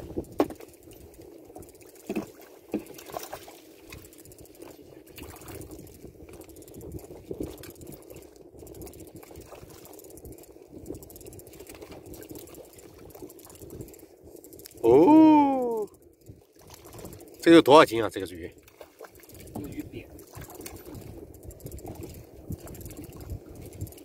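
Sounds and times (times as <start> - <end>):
water lapping against boat hull: 0.0 - 24.0.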